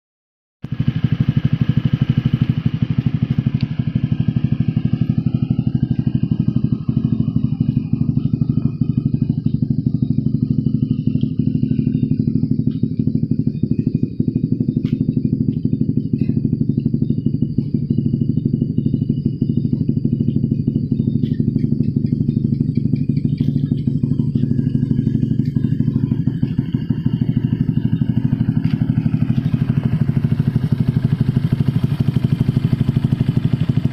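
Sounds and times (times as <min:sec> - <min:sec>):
scooter engine idling: 0:00.6 - 0:33.9.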